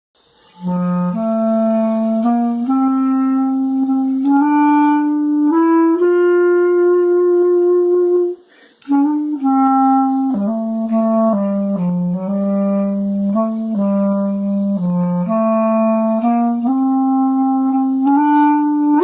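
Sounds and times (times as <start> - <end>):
solo clarinet playing hymn melody: 0.3 - 19.0.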